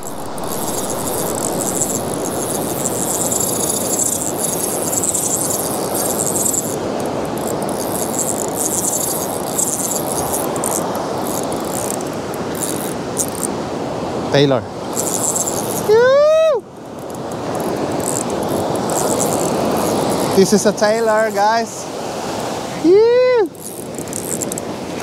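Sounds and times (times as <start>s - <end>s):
fishing reel rattling: 0.0s - 13.6s, 14.9s - 21.2s, 23.5s - 24.7s
surf washing: 0.0s - 25.0s.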